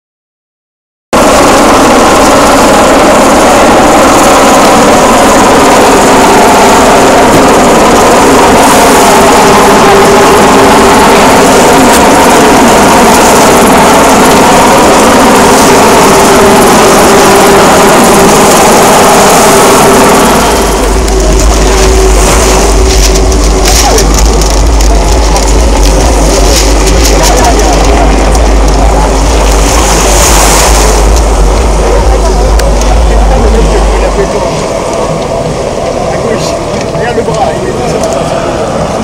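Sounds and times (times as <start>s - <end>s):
engine drone: 1.2s - 39.0s.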